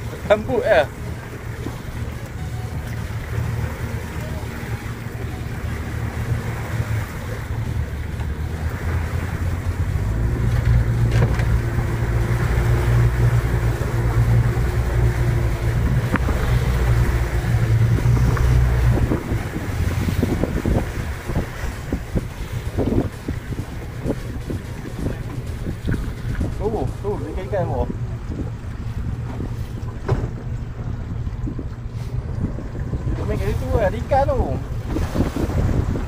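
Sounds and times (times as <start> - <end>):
boat engine humming: 0.0 - 36.0.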